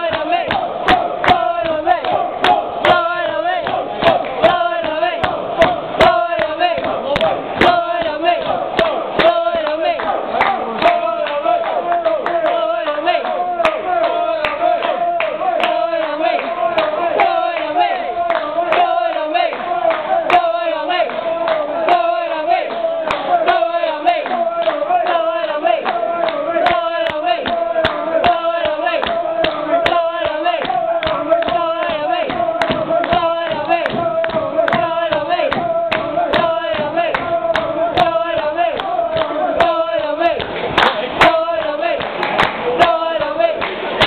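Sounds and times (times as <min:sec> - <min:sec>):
crowd chanting: 0:00.0 - 0:44.0
people clapping in time: 0:00.0 - 0:44.0.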